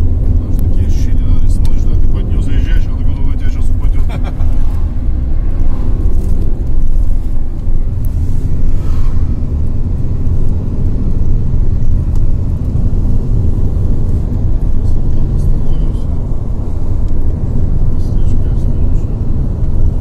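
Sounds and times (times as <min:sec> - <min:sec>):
car engine and tyre drone: 0:00.0 - 0:20.0.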